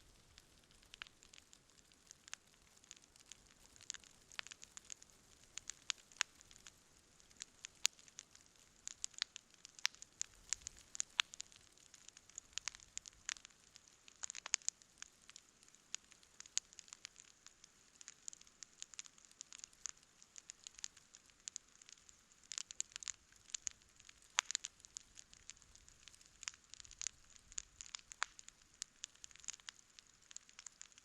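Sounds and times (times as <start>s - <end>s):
campfire crackling: 0.0s - 31.0s
faint steady hiss: 0.0s - 31.0s.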